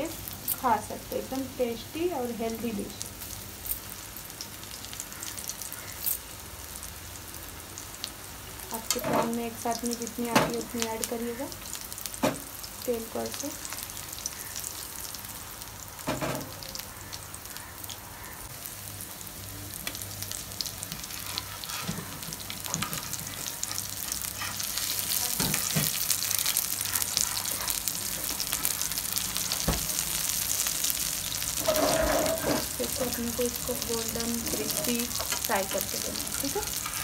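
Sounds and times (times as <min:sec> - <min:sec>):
patties sizzling in oil: 0:00.0 - 0:37.0.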